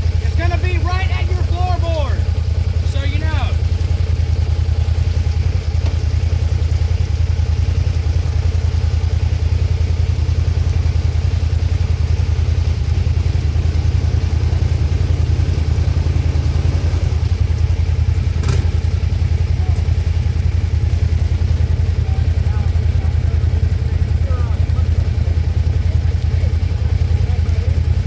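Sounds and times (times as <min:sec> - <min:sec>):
atv engine rumbling: 0:00.0 - 0:28.0.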